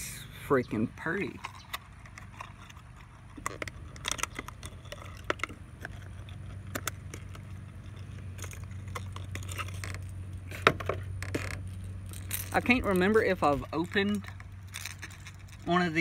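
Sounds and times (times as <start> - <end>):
low hum: 0.0 - 16.0
plastic packaging crackling: 1.4 - 16.0.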